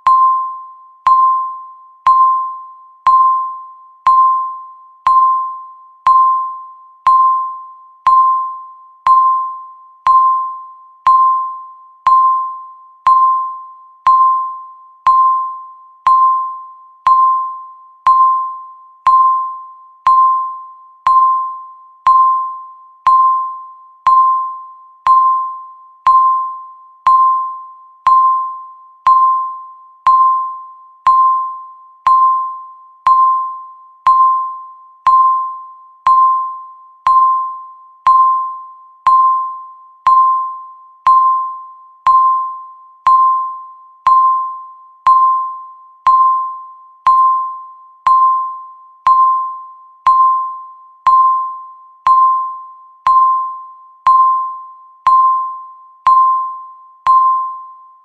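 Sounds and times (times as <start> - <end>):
electronic timer beeps: 0.0 - 58.0.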